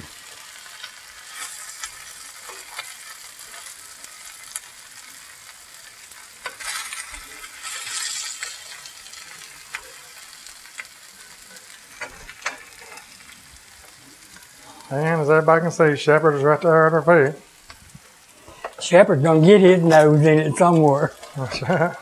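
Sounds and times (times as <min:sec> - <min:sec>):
vegetables sizzling in a skillet: 0:00.0 - 0:22.0.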